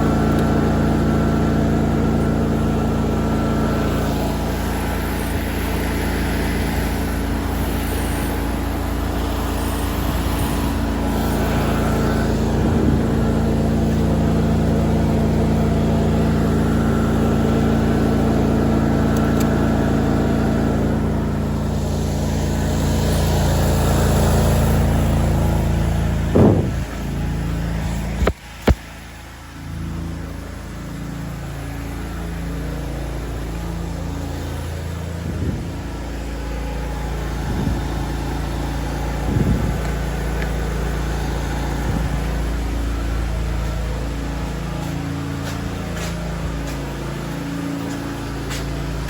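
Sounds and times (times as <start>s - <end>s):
lawn mower engine running: 0.0s - 49.0s.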